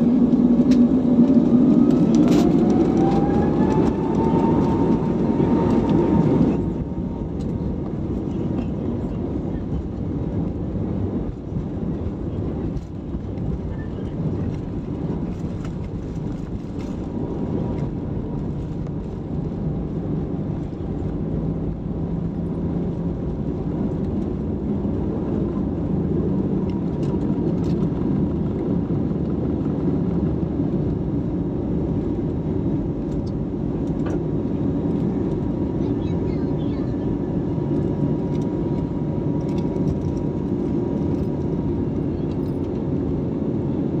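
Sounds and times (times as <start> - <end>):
airliner engines roaring: 0.0 - 44.0.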